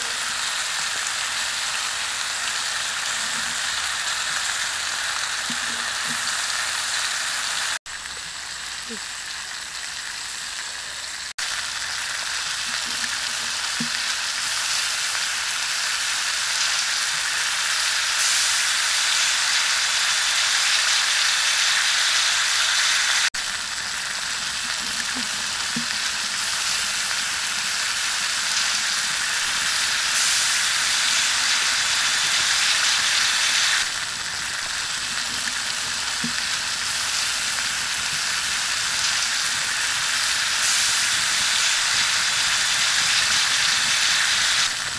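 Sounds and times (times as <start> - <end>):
ribs sizzling on hot stone: 0.0 - 44.9.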